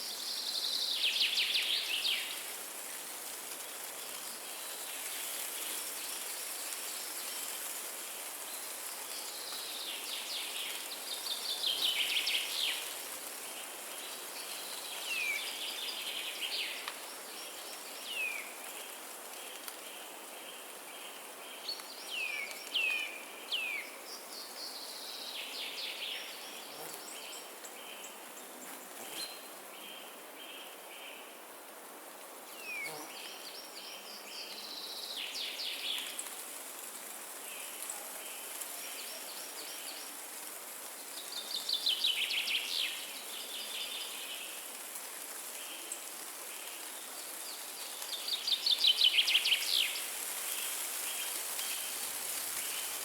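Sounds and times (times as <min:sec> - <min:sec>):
wind in trees: 0:00.0 - 0:53.0.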